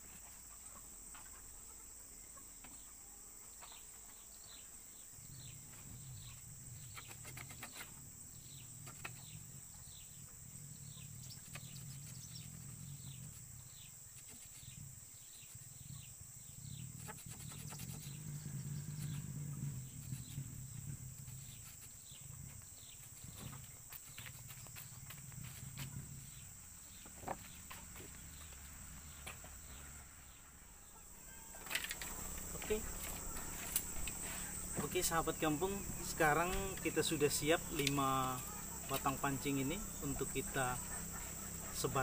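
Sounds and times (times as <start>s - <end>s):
high insect drone: 0.0s - 42.0s.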